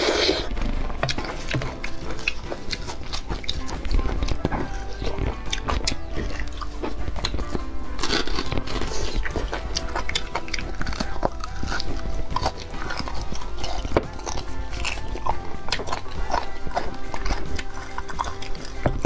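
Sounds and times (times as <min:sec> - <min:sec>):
background music: 0:00.0 - 0:19.0
chewing: 0:00.0 - 0:19.0
mouth slurping marrow from bone: 0:00.0 - 0:19.0.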